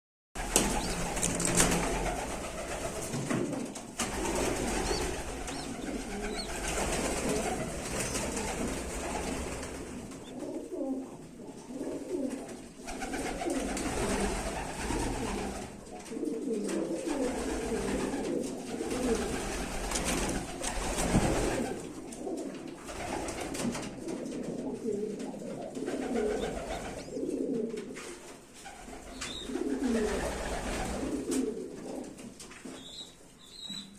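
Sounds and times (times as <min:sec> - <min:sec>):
pigeons cooing: 0:00.4 - 0:33.9.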